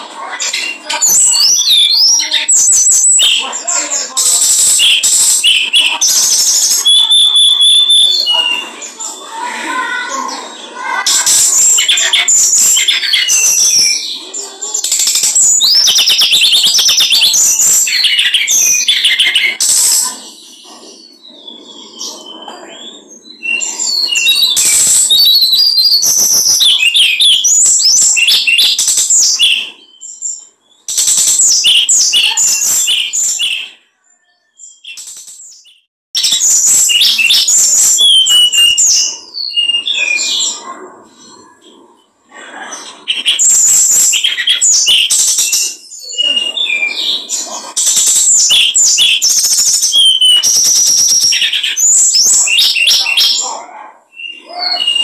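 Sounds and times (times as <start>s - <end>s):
songbird singing rapid chattering song: 0.4s - 10.0s, 10.8s - 42.1s, 42.8s - 55.0s.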